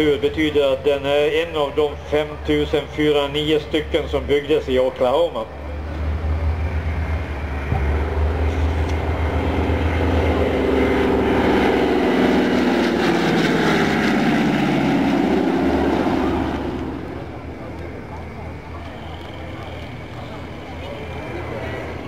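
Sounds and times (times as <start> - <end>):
propeller plane droning: 0.0 - 22.0.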